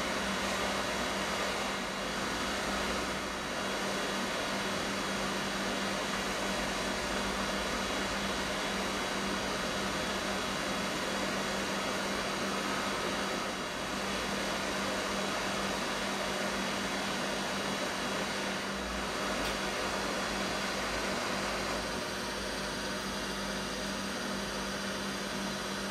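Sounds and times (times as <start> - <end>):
hot-air blower hiss and hum: 0.0 - 25.9.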